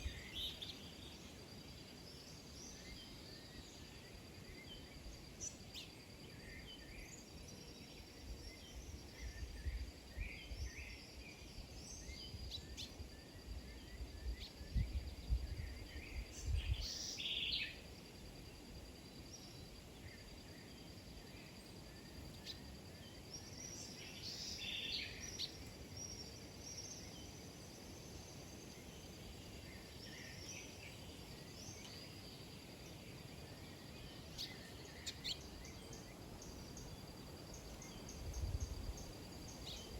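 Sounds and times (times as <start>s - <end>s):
small birds chirping: 0.0s - 18.2s, 19.2s - 39.9s.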